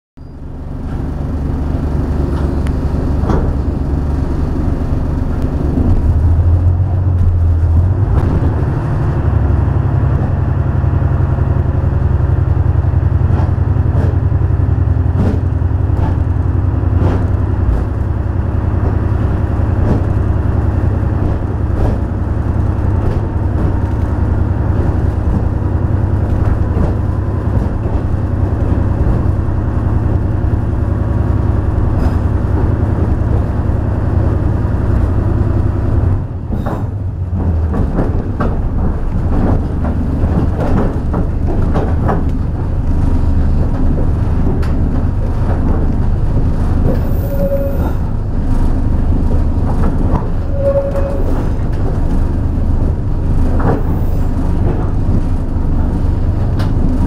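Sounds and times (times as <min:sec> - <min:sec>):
diesel engine of train: 0:00.2 - 0:57.0
wheels clacking over rail joints: 0:00.3 - 0:57.0.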